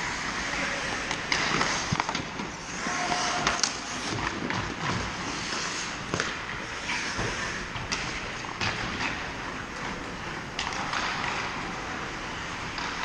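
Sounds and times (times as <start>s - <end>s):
hockey sticks and puck clacking: 0.0s - 13.0s
skate blades scraping ice: 0.0s - 13.0s.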